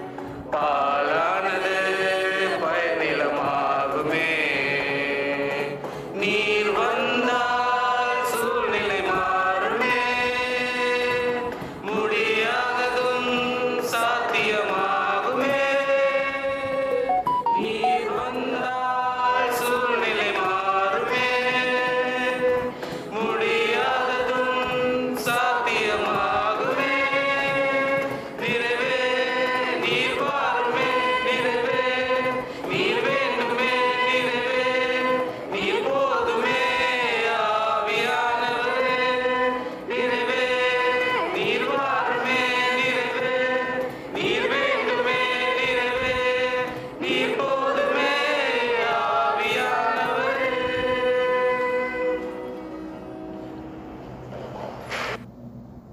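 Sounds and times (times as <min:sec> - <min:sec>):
group singing worship song: 0:00.0 - 0:53.2.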